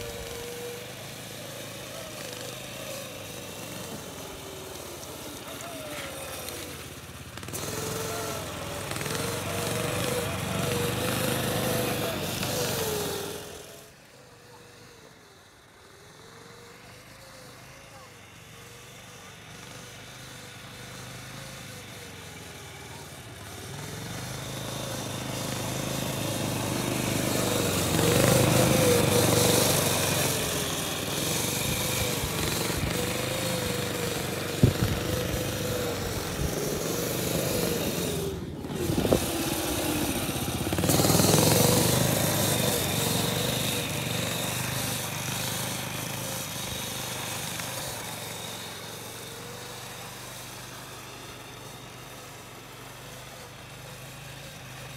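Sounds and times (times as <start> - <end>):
snowmobile engine running: 0.0 - 15.8, 16.4 - 54.9.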